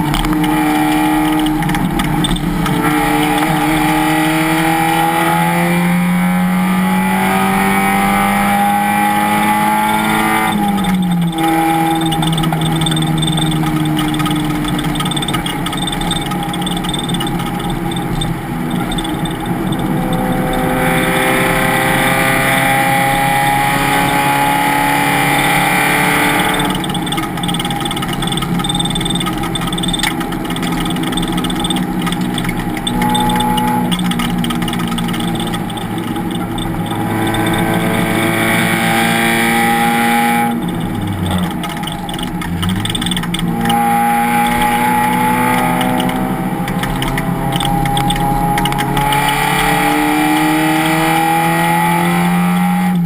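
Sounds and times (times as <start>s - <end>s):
race car engine at full throttle: 0.0s - 53.0s.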